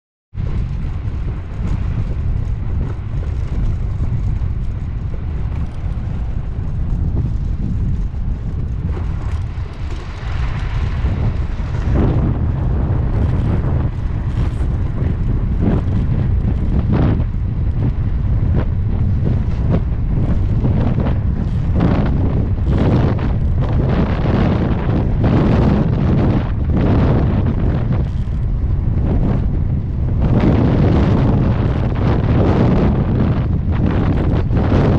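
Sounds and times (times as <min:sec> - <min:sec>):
wind buffeting microphone: 0:00.3 - 0:34.9.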